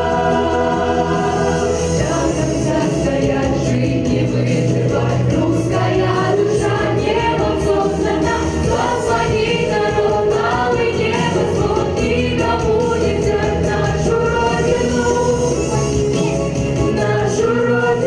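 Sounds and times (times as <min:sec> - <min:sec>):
choir singing: 0:00.0 - 0:18.0
musical accompaniment with bass line: 0:00.0 - 0:18.0.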